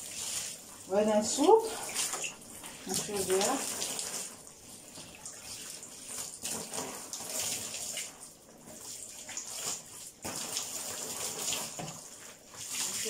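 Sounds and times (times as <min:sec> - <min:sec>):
water splashing into a tub: 0:00.0 - 0:13.0.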